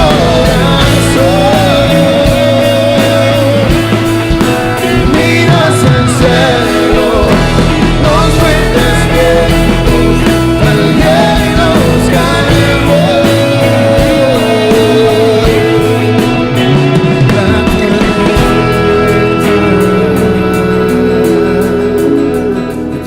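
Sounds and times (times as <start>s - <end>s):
worship band music: 0.0s - 23.0s.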